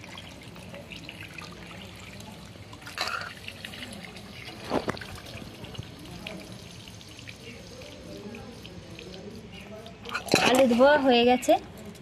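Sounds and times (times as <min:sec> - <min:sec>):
water sloshing and trickling: 0:00.0 - 0:12.0
water splashes: 0:00.0 - 0:12.0.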